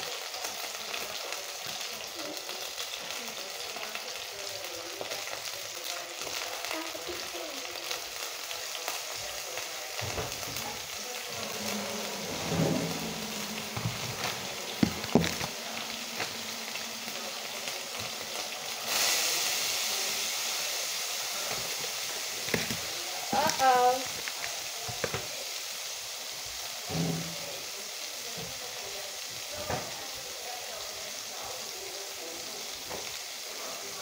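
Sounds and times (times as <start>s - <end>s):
crackling frying sizzle: 0.0s - 34.0s.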